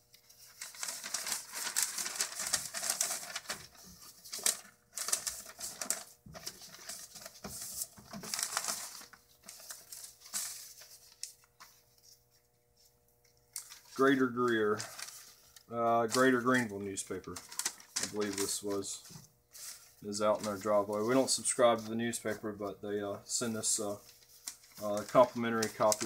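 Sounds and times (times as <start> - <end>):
newspaper rustling and crinkling: 0.0 - 22.6, 23.3 - 26.0.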